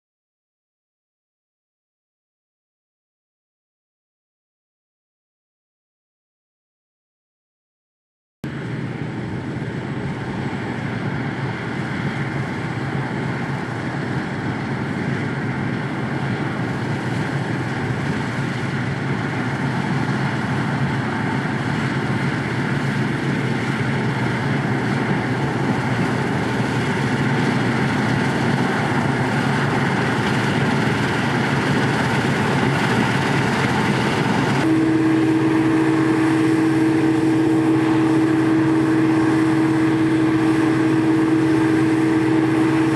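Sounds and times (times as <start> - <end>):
diesel harvest machinery running: 8.5 - 42.9
high-pitched whine: 8.5 - 42.9.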